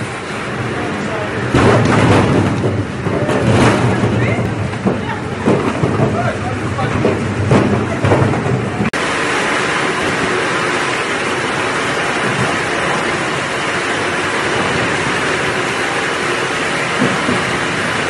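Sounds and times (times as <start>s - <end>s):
processing machine drum rumbling: 0.0s - 18.0s.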